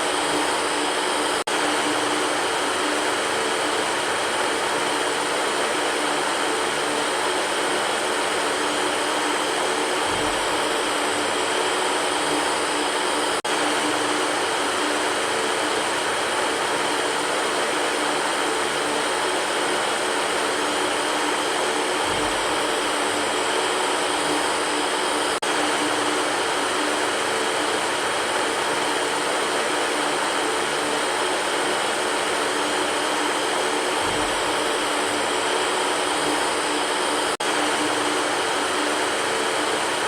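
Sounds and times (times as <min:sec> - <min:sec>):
faint motor hum: 0:00.0 - 0:40.0.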